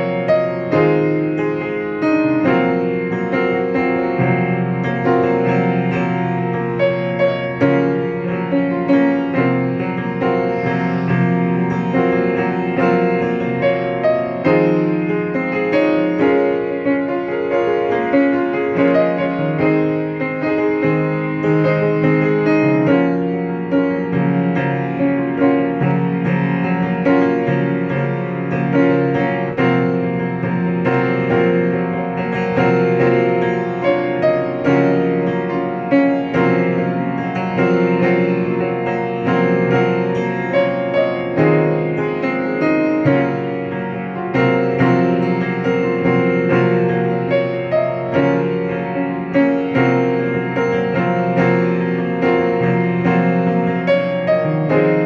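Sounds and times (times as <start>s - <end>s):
piano-like keyboard music: 0.0s - 55.0s.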